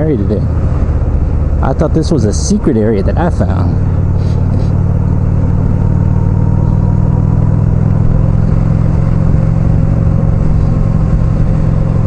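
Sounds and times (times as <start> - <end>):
motorcycle engine droning: 0.0 - 12.0
road noise: 0.0 - 12.0.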